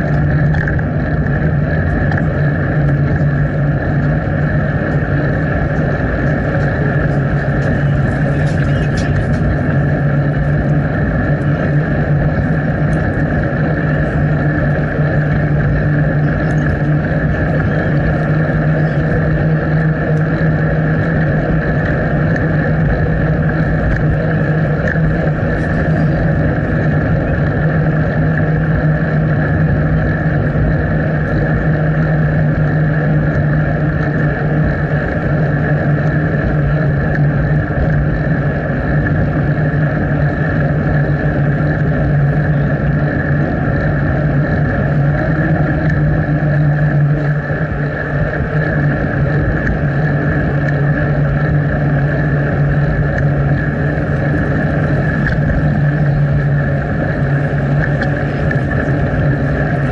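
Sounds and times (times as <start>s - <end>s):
bicycle riding noise: 0.0s - 59.9s
rushing wind: 0.0s - 59.9s.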